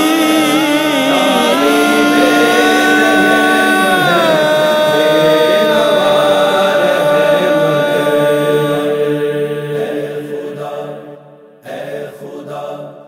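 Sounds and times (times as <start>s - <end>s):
wordless vocal chant drone: 0.0s - 13.0s.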